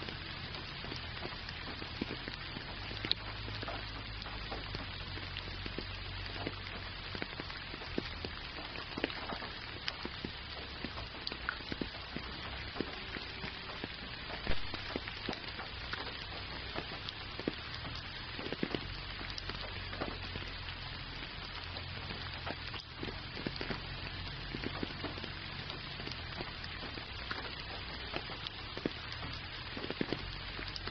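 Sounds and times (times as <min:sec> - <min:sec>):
gentle rain hiss: 0:00.0 - 0:30.9
raindrops ticking close by: 0:00.0 - 0:30.9.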